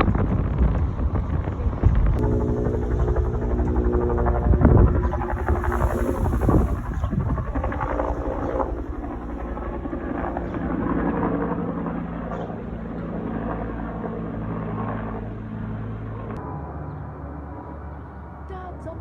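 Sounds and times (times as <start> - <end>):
aircraft engine droning: 0.9 - 18.5.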